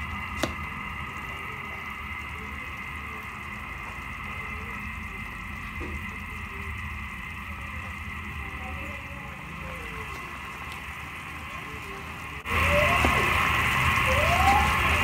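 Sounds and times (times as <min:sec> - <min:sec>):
broth simmering and bubbling: 0:00.0 - 0:15.0.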